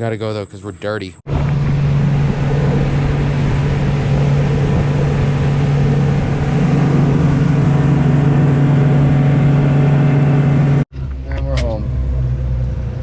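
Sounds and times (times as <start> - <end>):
wind: 0.0 - 13.0
boat motor droning: 1.3 - 13.0.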